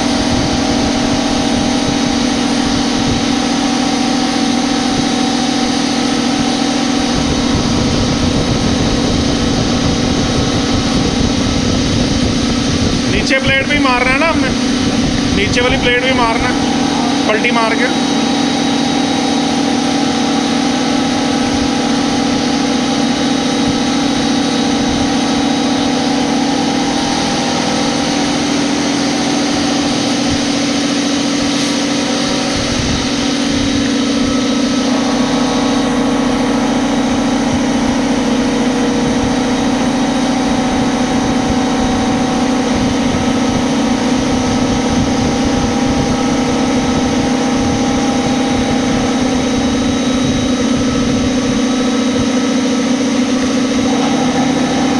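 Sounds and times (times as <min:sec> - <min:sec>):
machine hum with steady tones: 0:00.0 - 0:54.9.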